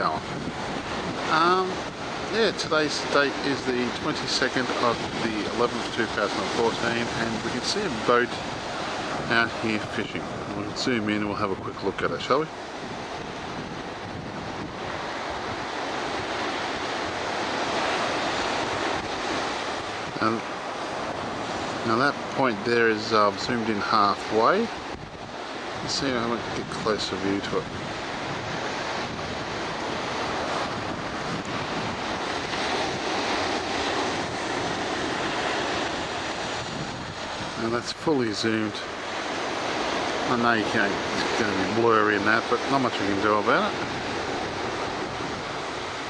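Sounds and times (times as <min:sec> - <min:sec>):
ocean surf washing on beach: 0:00.0 - 0:46.0
wind buffeting microphone: 0:00.0 - 0:46.0.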